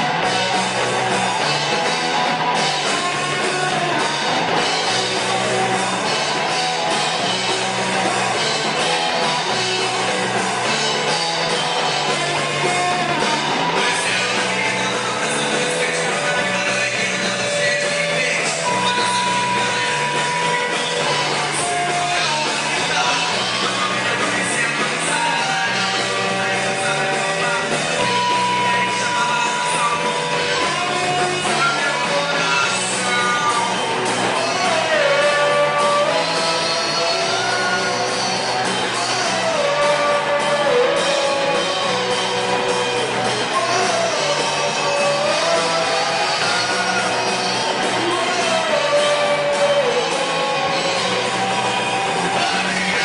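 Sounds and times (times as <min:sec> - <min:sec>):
person singing and shouting: 0:00.0 - 0:53.0
rock band playing live: 0:00.0 - 0:53.0.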